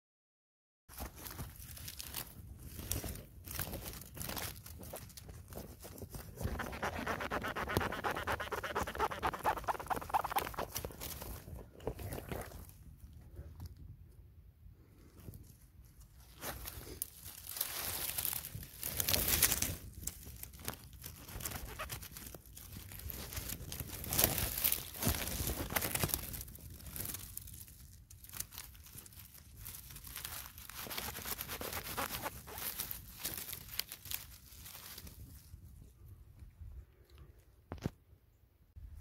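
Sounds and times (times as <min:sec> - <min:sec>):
leaves crunching underfoot: 0:00.9 - 0:12.8, 0:15.4 - 0:35.6.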